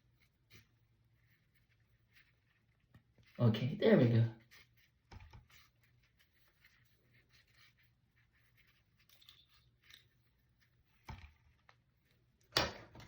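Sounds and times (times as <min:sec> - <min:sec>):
faint scratching and rustling: 0:00.0 - 0:12.5.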